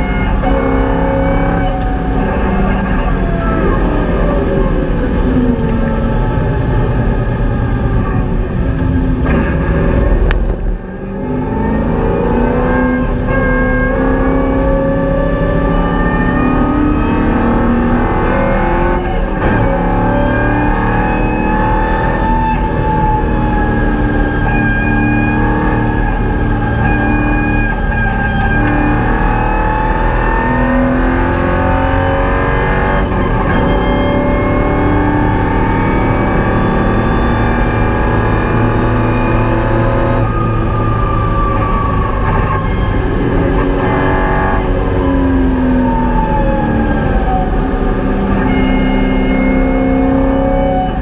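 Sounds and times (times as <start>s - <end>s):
car engine accelerating: 0.0s - 51.0s.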